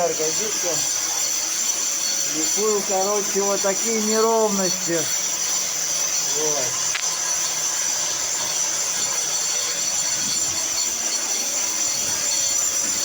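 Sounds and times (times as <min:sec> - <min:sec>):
angle grinder grinding concrete: 0:00.0 - 0:13.0.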